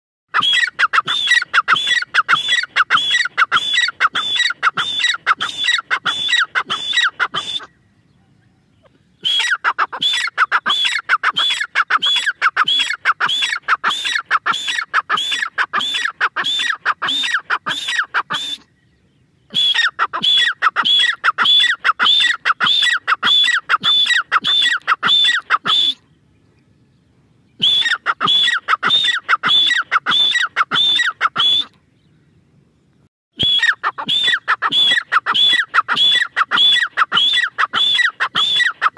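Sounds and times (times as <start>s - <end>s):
francolin calling: 0.3s - 32.4s, 33.4s - 38.9s.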